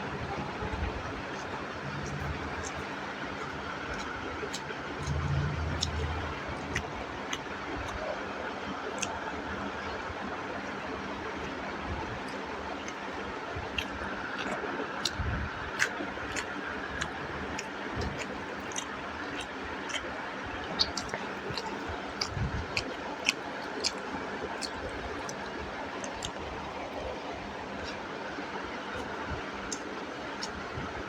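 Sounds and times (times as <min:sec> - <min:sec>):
mouth chewing wetly: 0:00.4 - 0:09.3, 0:11.4 - 0:31.0.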